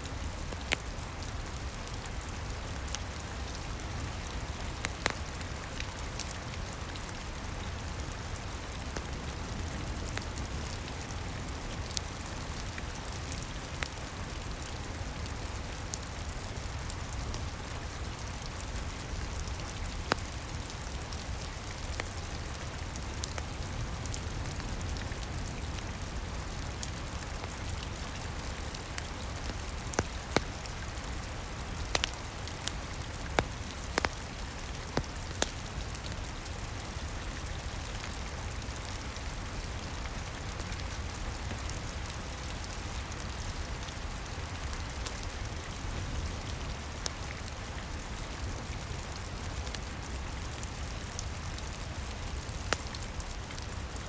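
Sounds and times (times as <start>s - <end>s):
steady rain: 0.0s - 54.0s
wood fire crackling and popping: 0.2s - 48.0s, 49.1s - 54.0s.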